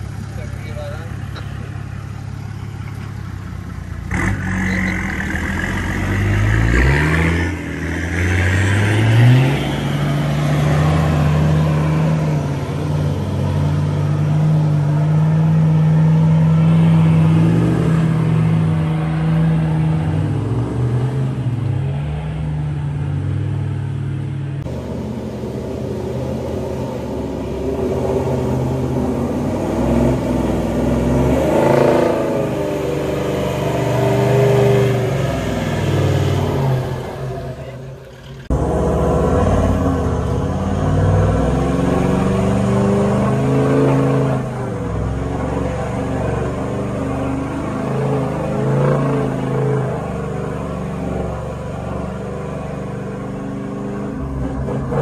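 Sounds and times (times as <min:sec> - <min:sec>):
engine revving under load: 0:03.9 - 0:55.0.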